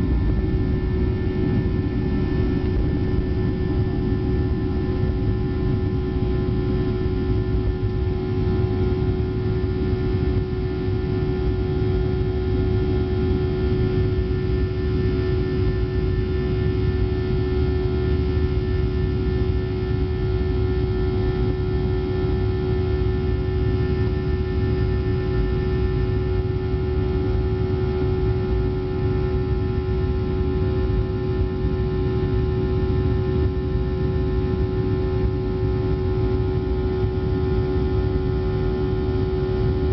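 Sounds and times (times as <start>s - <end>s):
jet engines at takeoff thrust: 0.0s - 39.9s.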